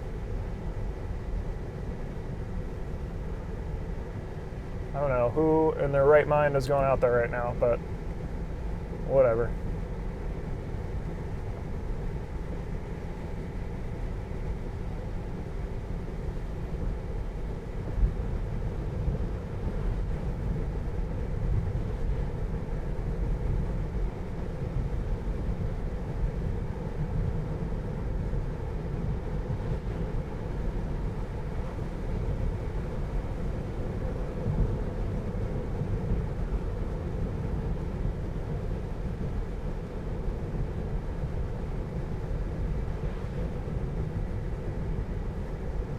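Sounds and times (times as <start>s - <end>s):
road and tyre noise: 0.0s - 45.9s.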